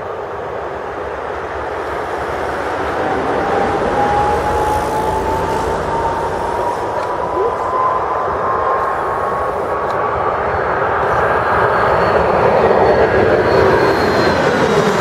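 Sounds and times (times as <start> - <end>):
jet engines spooling up: 0.0 - 15.0
thin rising whine: 1.5 - 15.0.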